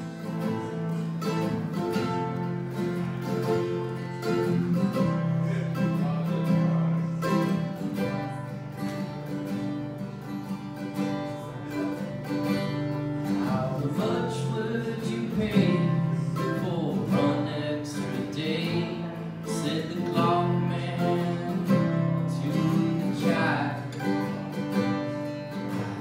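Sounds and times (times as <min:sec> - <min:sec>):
acoustic guitar strumming: 0:00.0 - 0:26.0
mandolin picking: 0:00.0 - 0:26.0.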